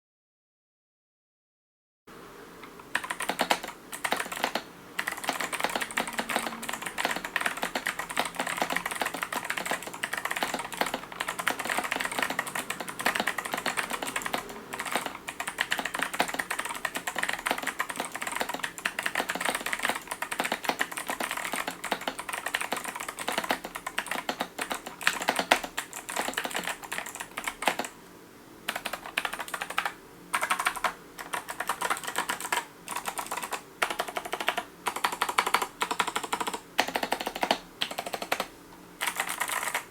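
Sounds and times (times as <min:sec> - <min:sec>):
fast mechanical keyboard typing: 0:02.8 - 0:28.0, 0:28.7 - 0:39.9.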